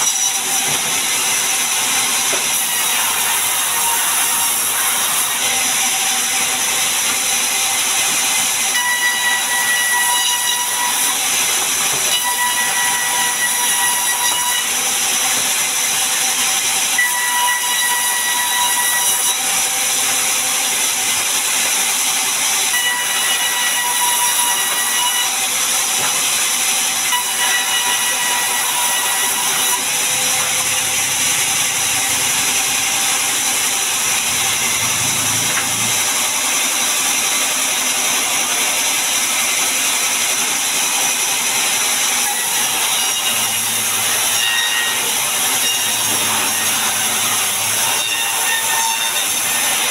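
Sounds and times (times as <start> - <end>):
saw whine: 0.0 - 49.9.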